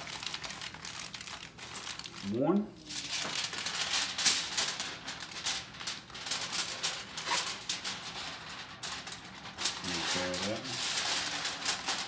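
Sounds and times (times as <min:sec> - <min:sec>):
aluminum foil crinkling: 0:00.0 - 0:12.0.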